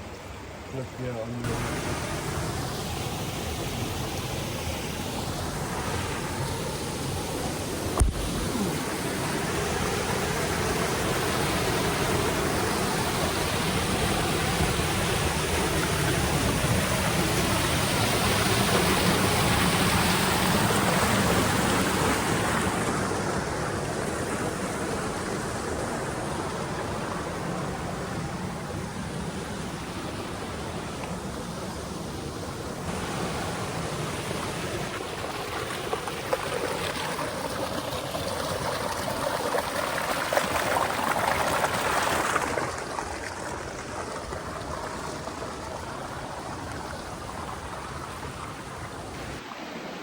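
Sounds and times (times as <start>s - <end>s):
rushing water: 0.0s - 50.0s.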